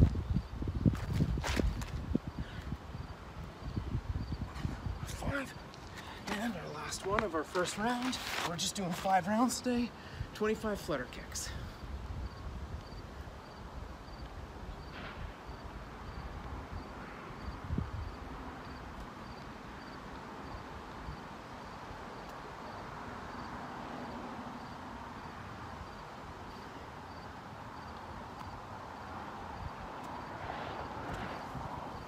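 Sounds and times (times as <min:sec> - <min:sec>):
insect chirping: 0:00.2 - 0:06.9, 0:11.5 - 0:32.0.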